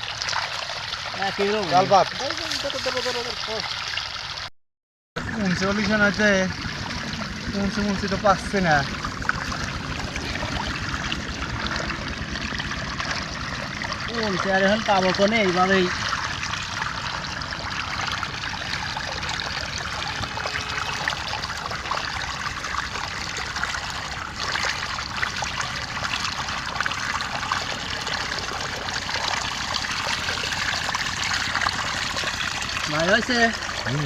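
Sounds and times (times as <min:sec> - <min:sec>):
water trickling through channel: 0:00.0 - 0:04.5, 0:05.2 - 0:34.0.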